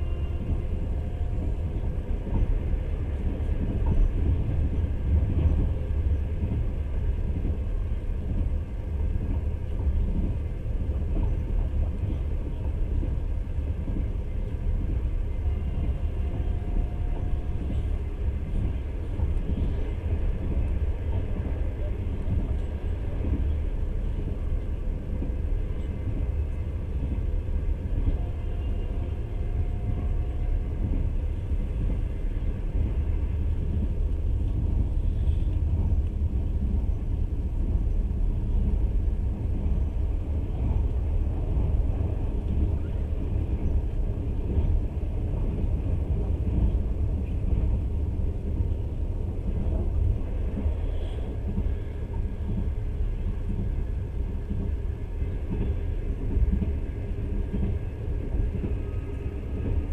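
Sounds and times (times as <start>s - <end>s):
train rumbling on rails: 0.0s - 59.9s.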